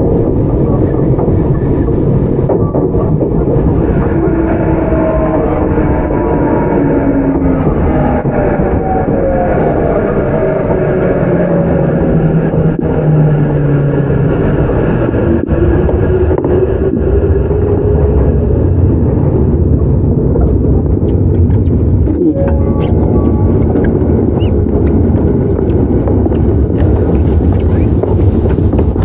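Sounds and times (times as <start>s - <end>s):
train inverter and motor whine: 0.0s - 29.0s
wheel and rail noise: 0.0s - 29.0s.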